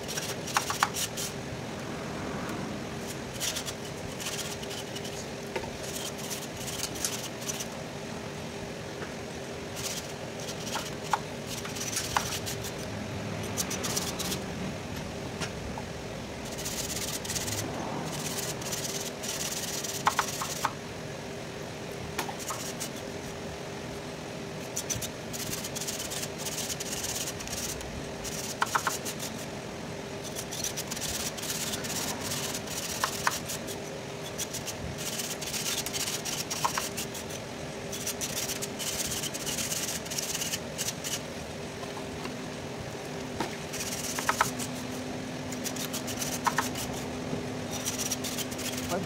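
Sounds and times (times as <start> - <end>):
steady hum: 0.0 - 49.0.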